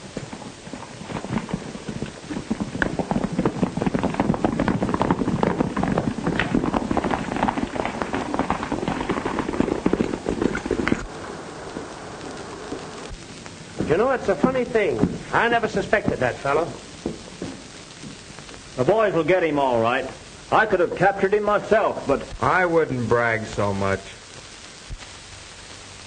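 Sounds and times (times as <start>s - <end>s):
horses galloping hoofbeats: 0.0s - 24.1s.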